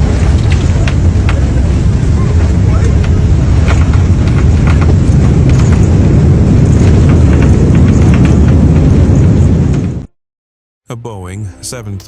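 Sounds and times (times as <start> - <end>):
airliner cabin rumble: 0.0 - 10.1.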